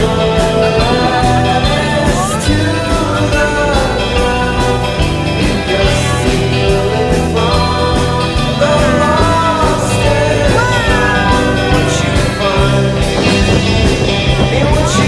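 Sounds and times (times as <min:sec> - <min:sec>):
song with sung melody and bass: 0:00.0 - 0:15.0.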